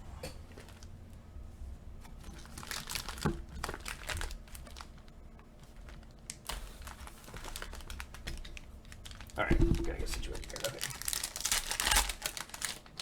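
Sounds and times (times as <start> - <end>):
plastic packaging crinkling: 0.5 - 1.0, 2.0 - 13.0.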